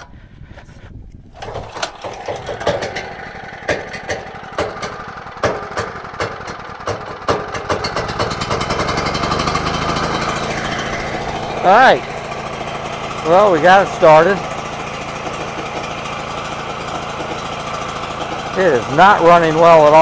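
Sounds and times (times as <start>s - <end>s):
generator engine running rough: 0.0s - 20.0s.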